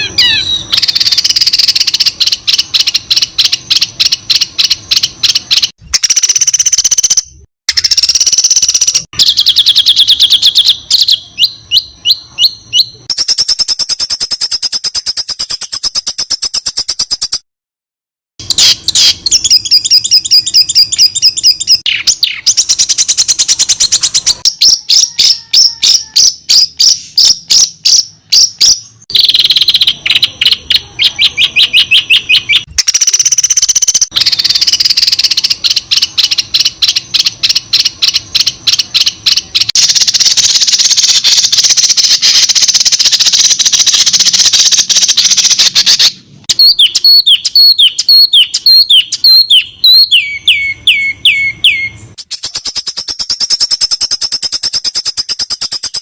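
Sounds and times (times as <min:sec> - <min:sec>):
bird chips and trills: 0:00.0 - 0:17.4, 0:18.4 - 0:56.0.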